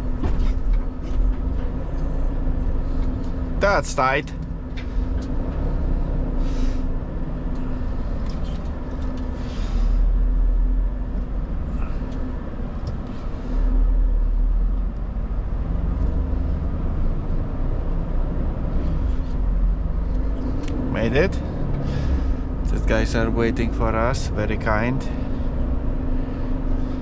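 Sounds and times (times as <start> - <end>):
lorry diesel engine running: 0.0 - 27.0.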